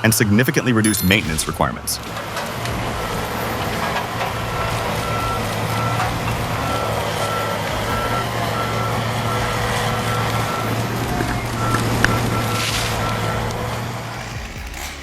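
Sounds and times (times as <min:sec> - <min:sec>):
backup alarm beeping: 0:00.8 - 0:15.0
heavy machine engine running: 0:01.1 - 0:15.0.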